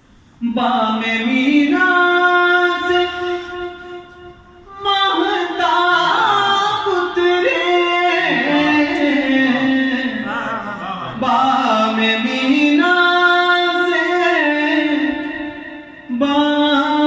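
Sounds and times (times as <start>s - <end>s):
man singing into a microphone: 0.4s - 17.0s.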